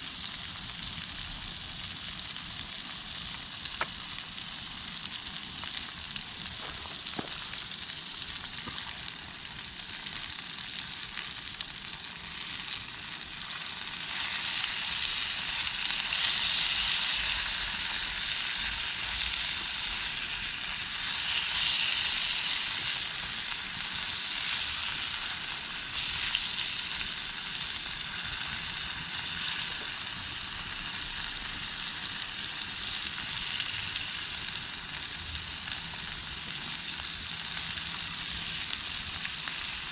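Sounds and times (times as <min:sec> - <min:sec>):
meat sizzling over campfire: 0:00.0 - 0:39.9.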